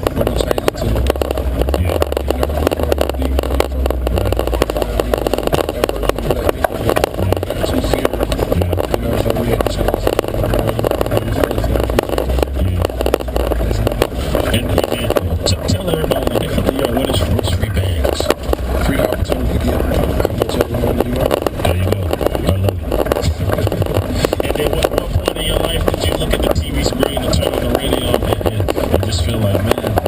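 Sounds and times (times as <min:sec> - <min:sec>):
engine rumble: 0:00.0 - 0:30.0.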